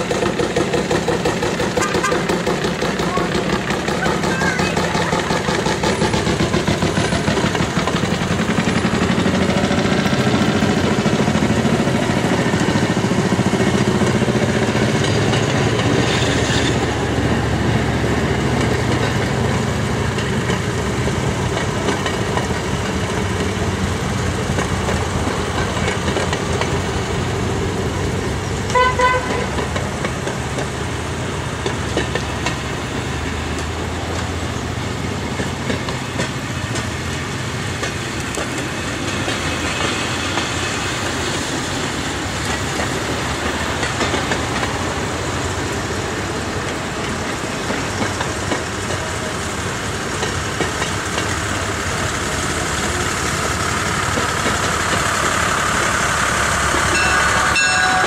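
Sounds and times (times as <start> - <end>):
small engines chugging: 0.0 - 58.0.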